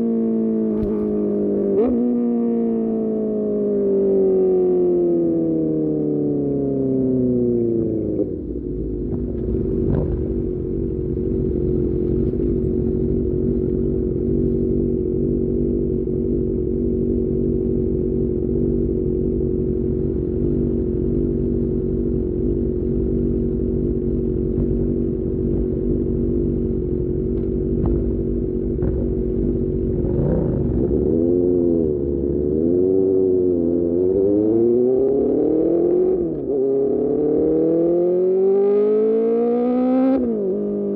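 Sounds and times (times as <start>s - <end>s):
motorcycle engine running: 0.0s - 2.9s, 7.1s - 37.5s.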